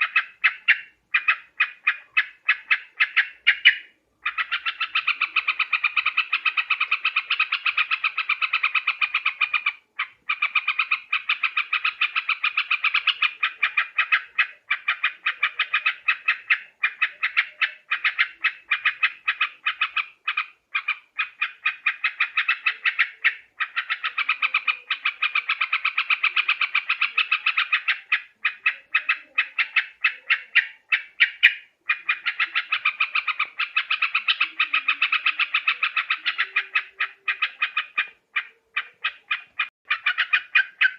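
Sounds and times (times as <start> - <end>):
bulbuls chattering: 0.0 - 40.9.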